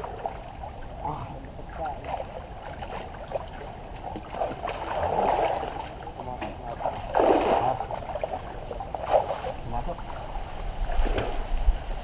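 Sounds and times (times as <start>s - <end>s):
people wading through water: 0.0s - 12.0s.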